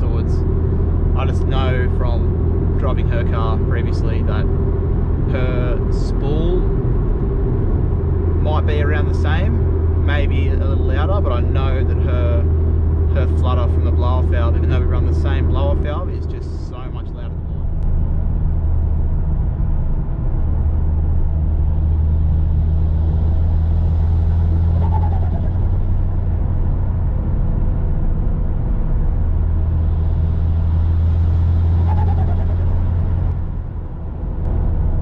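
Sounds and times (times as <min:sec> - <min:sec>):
car engine droning in cabin: 0:00.0 - 0:35.0.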